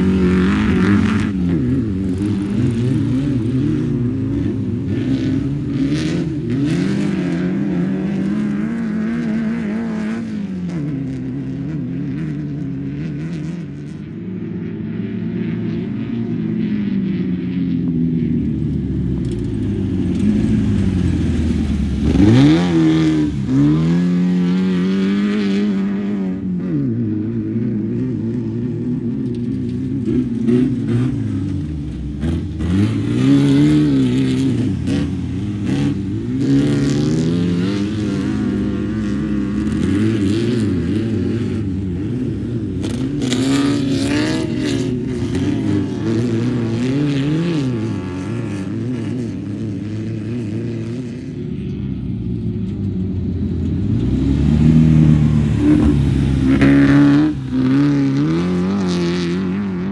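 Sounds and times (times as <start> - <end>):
race car engine revving: 0.0 - 13.9, 19.0 - 26.7, 29.3 - 51.2, 53.5 - 59.9.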